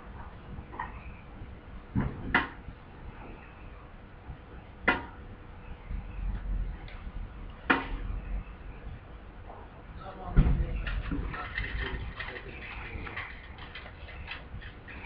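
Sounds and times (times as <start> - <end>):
faint low rumble: 0.0 - 12.2.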